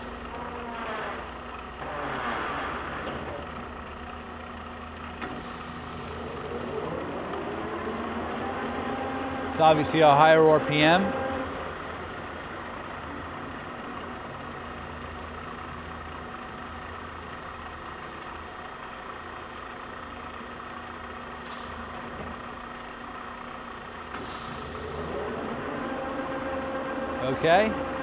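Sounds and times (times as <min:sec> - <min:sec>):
lathe humming: 0:00.0 - 0:21.3, 0:21.9 - 0:28.0.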